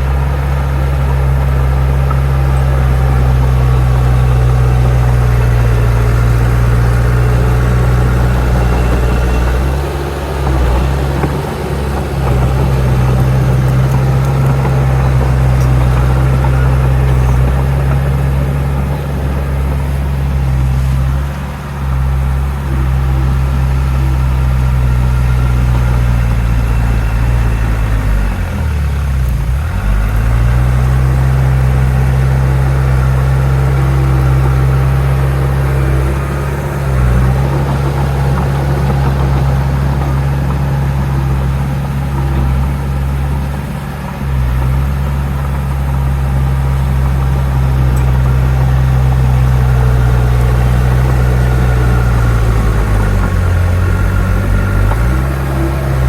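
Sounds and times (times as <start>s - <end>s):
heavy diesel machine engine: 0.0s - 56.0s.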